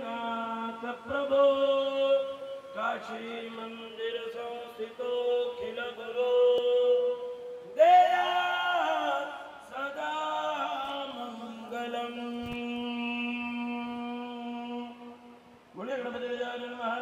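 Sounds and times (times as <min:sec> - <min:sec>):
priests chanting into microphones: 0:00.0 - 0:17.0.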